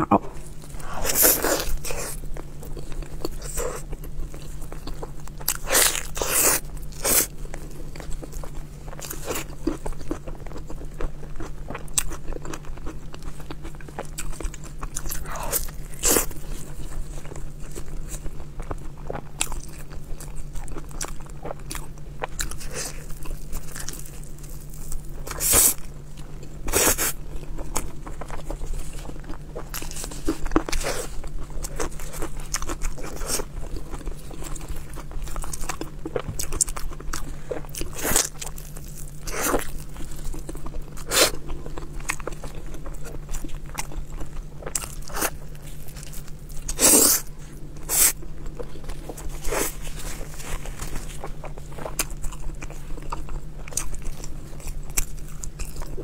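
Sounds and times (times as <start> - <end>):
faint low hum: 0.0 - 56.0
person chewing food: 0.0 - 56.0.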